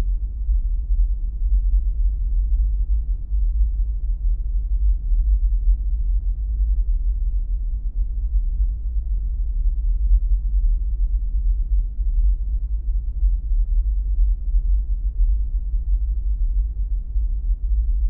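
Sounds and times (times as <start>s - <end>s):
deep low hum: 0.0s - 18.0s.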